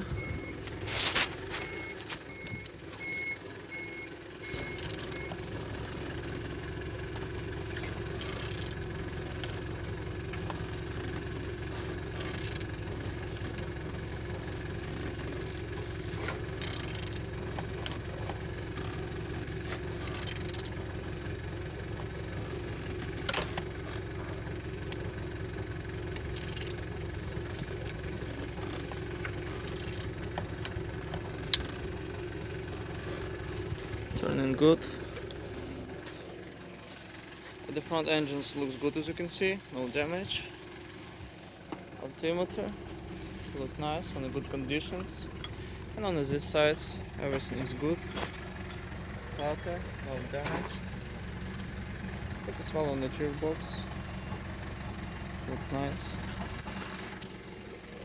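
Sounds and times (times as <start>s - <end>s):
diesel engine starting and idling: 0.0s - 58.0s.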